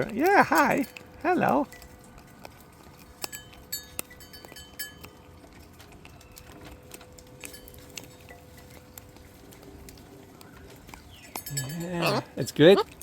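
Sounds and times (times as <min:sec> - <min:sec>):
sharp metallic clinks: 0:00.0 - 0:09.1, 0:11.1 - 0:12.8.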